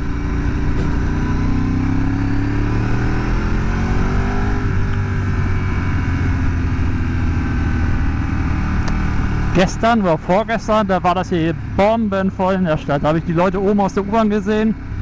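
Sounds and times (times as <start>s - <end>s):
motorcycle engine accelerating: 0.0s - 15.0s
wind and road noise: 0.0s - 15.0s.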